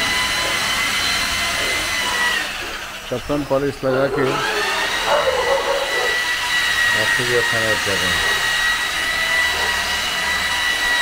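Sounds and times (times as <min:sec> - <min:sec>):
car polisher motor whine: 0:00.0 - 0:11.0.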